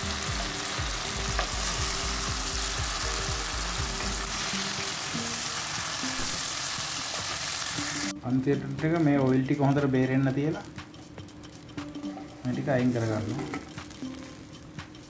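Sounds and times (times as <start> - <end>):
onions frying in oil: 0.0 - 15.0.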